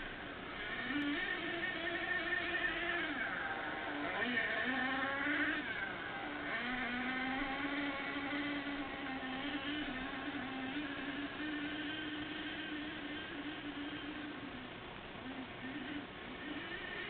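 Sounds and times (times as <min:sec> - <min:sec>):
small nitro engine buzzing: 0:00.0 - 0:17.0.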